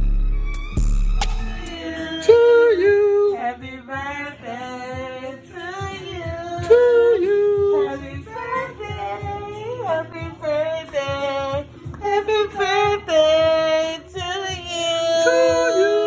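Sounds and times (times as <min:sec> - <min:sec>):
woman singing unaccompanied: 0:01.8 - 0:16.0.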